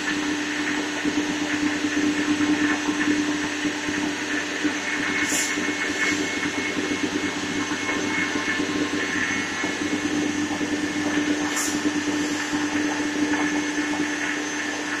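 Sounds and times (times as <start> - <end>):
router machine humming: 0.0 - 15.0.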